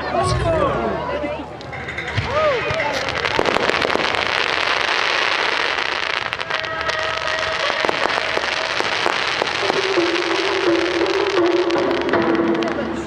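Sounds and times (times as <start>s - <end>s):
fireworks crackling and banging: 0.2s - 13.0s.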